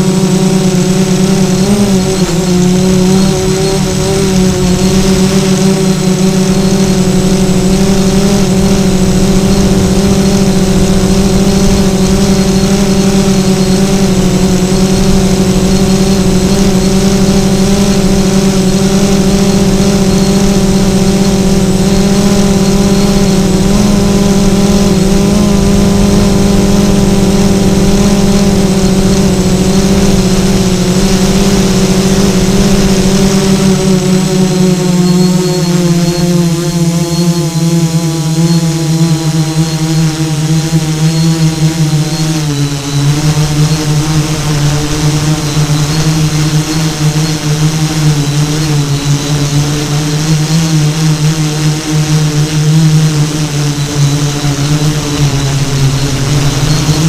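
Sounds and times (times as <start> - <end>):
constant hiss: 0.0 - 57.0
small electric motors humming: 0.0 - 57.0.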